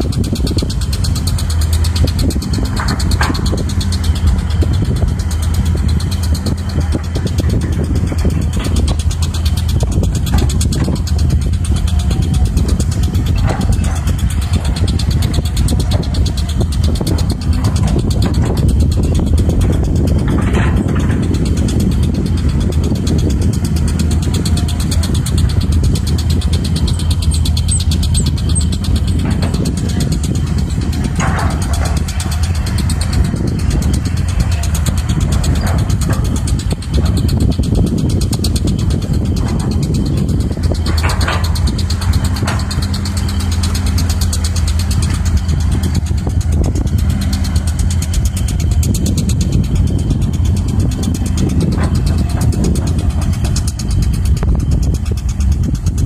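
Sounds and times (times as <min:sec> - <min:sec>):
diesel engines rumbling: 0:00.0 - 0:56.0
fast even ticking: 0:00.0 - 0:56.0.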